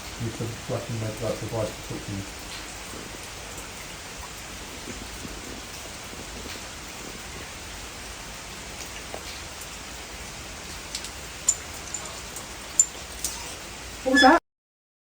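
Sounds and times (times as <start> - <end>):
raindrop taps: 0.0 - 13.3
steady rain hiss: 0.0 - 14.4.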